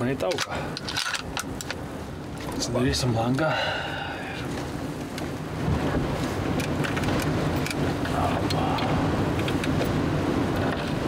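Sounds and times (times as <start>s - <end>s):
strong wind rushing: 0.6s - 11.0s.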